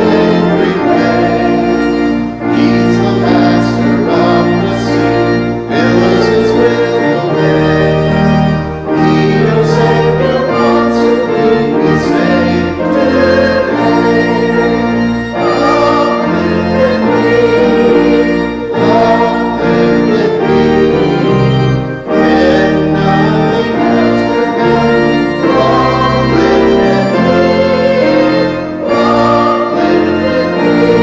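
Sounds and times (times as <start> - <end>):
church organ chords: 0.0 - 31.0.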